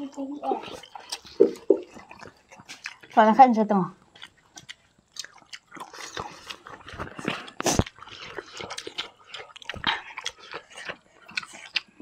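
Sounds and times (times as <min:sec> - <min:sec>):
people chewing and lip smacking: 0:00.0 - 0:12.0.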